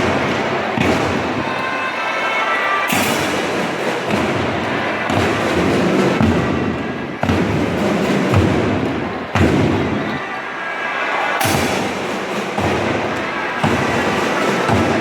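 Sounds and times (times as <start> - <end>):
snare drums: 0.0 - 2.2, 2.8 - 10.3, 11.2 - 15.0
cymbals: 0.0 - 10.3, 11.2 - 15.0.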